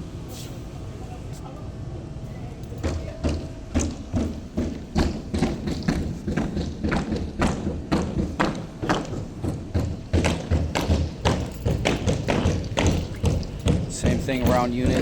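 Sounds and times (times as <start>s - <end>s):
dull thuds: 2.9s - 15.0s.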